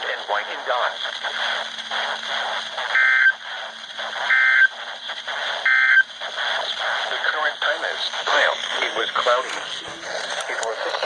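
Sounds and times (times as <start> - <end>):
radio reception hiss: 0.0 - 11.0.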